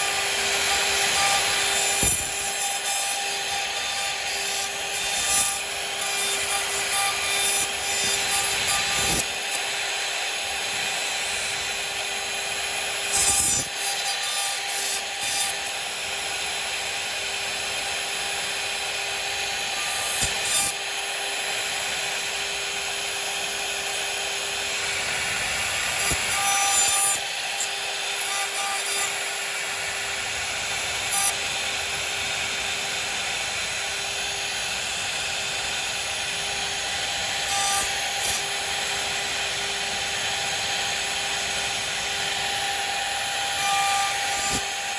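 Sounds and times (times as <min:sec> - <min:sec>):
cnc router cutting wood: 0:00.0 - 0:44.9.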